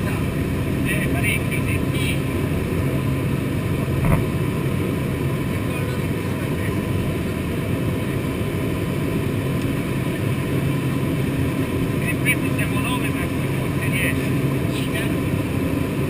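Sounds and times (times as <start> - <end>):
light aircraft engine and propeller: 0.0 - 16.0.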